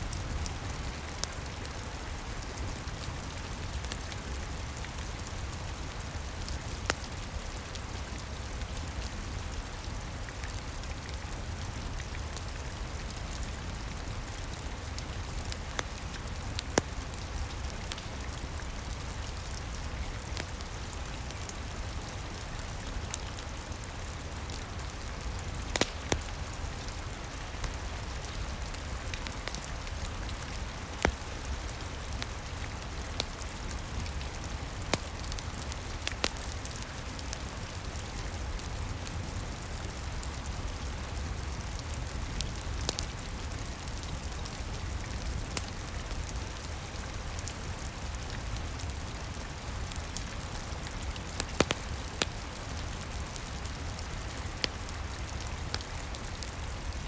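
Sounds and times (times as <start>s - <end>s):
steady rain: 0.0s - 57.0s
wood fire crackling and popping: 0.0s - 57.0s.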